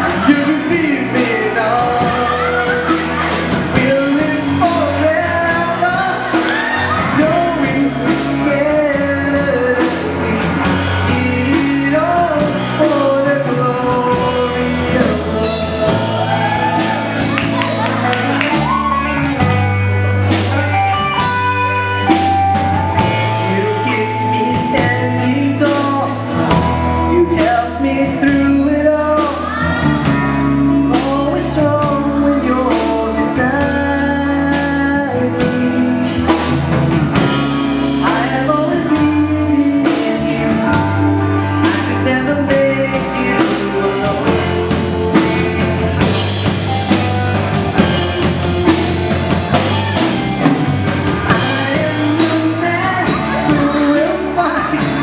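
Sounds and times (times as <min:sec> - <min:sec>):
person singing into a microphone: 0:00.0 - 0:19.6, 0:22.0 - 0:50.1, 0:51.1 - 0:55.0
drum kit with cymbals: 0:00.0 - 0:55.0
electric bass guitar: 0:00.0 - 0:55.0.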